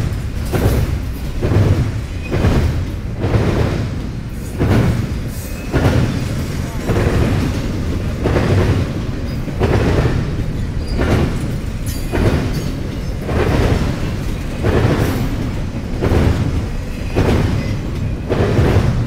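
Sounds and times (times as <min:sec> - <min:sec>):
train low rumble: 0:00.0 - 0:19.0
train wheels banging over crossing: 0:00.0 - 0:19.0.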